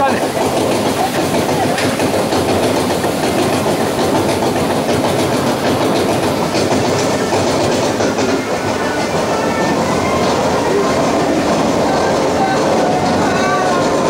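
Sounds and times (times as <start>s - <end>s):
roller coaster cars rattling: 0.0s - 14.0s
roller coaster wheels rumbling: 0.0s - 14.0s.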